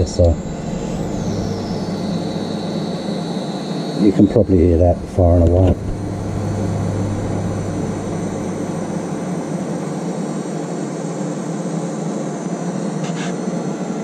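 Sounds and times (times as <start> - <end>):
low electrical hum: 0.0 - 11.8
cooling fan whirring: 0.0 - 14.0.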